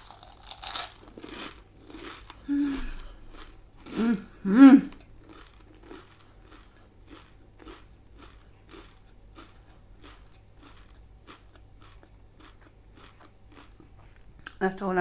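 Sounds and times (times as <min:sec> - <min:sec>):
person chewing crunchy food: 0:00.0 - 0:14.6.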